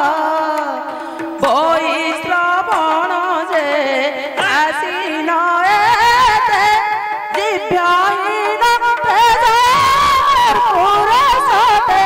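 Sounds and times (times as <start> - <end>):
woman singing into microphone: 0.0 - 12.0.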